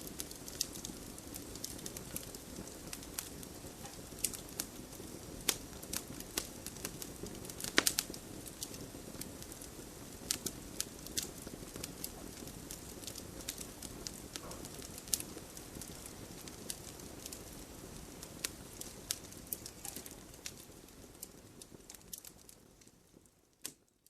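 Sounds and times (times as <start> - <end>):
wood campfire crackling: 0.0 - 24.0.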